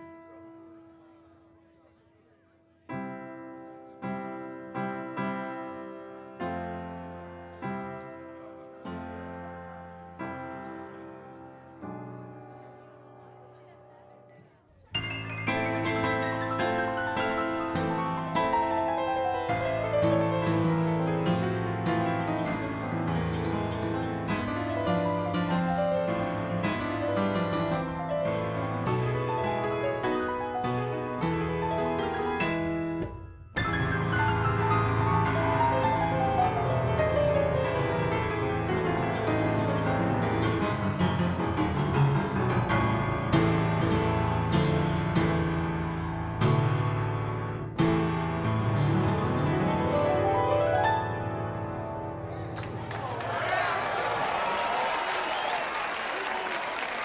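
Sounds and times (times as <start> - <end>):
upright piano playing: 0.0 - 0.9, 2.9 - 54.6.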